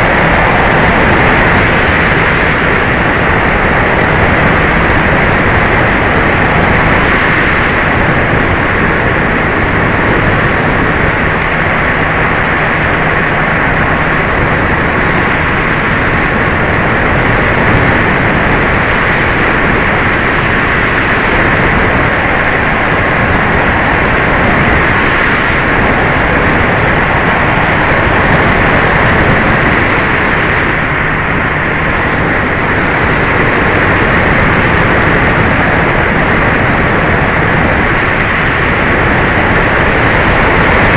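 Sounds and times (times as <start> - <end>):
airflow rushing: 0.0 - 40.9.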